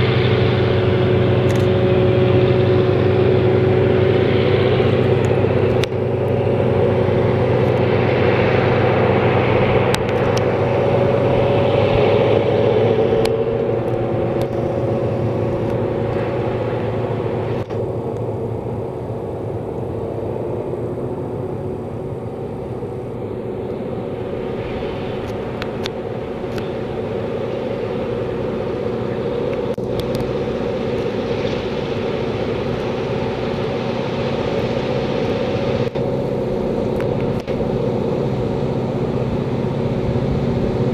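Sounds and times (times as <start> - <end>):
diesel locomotive engines droning: 0.0 - 40.9.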